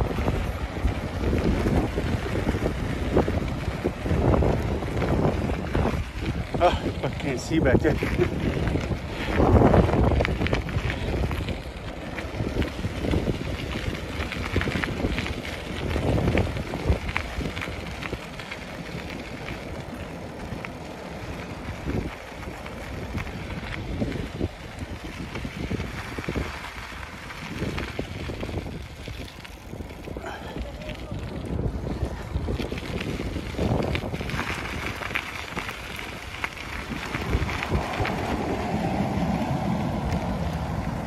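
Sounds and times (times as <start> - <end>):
bicycle clicks: 0.0 - 41.0
wind buffeting microphone: 0.0 - 41.0.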